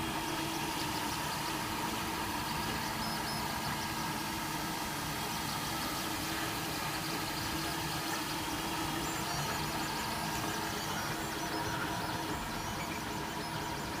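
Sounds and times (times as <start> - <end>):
printer motors and fans whirring: 0.0 - 14.0.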